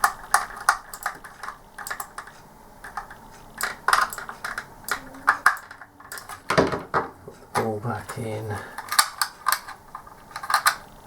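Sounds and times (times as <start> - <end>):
plastic parts knocking: 0.0 - 7.7, 8.8 - 10.9.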